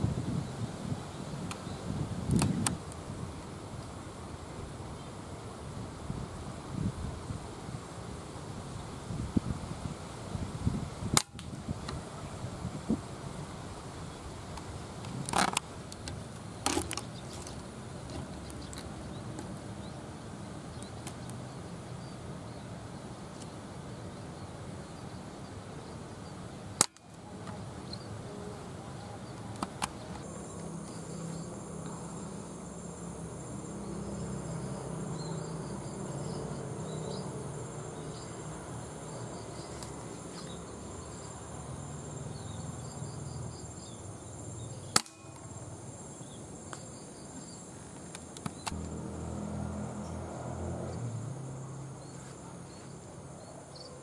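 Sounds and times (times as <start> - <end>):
high insect buzz: 0.0 - 54.0.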